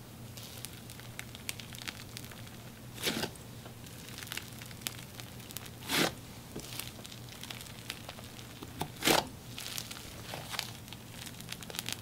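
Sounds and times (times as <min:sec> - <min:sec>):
slime stretched crackling and popping: 0:00.3 - 0:12.0
slime tearing hiss: 0:00.3 - 0:12.0.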